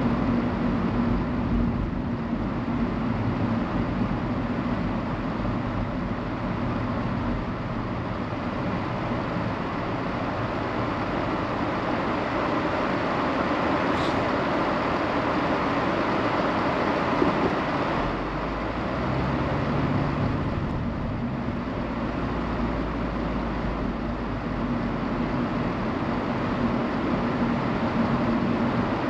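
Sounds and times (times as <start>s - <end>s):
car engine hum: 0.0s - 29.0s
car interior hum: 0.0s - 29.0s
road noise: 0.0s - 29.0s.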